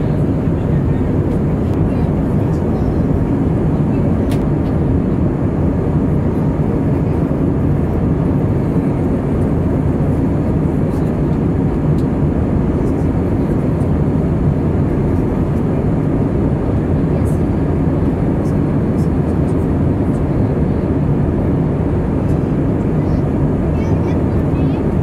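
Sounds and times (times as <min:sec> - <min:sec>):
airplane cabin engine noise: 0:00.0 - 0:25.0.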